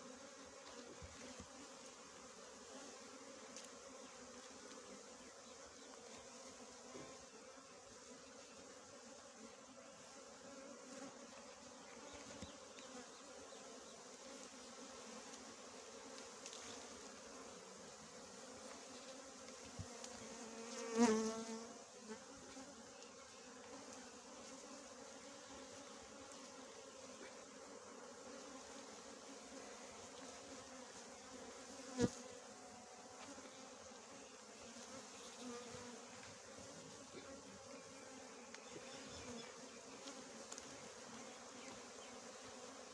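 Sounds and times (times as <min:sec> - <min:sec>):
bees buzzing: 0:00.0 - 0:42.9.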